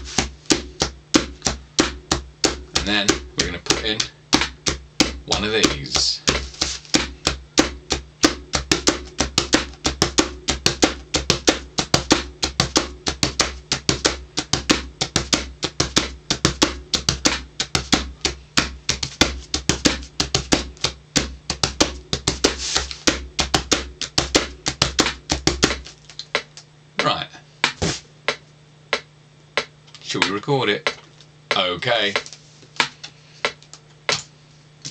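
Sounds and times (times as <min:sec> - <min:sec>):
hands drumming on cardboard box: 0:00.0 - 0:34.9.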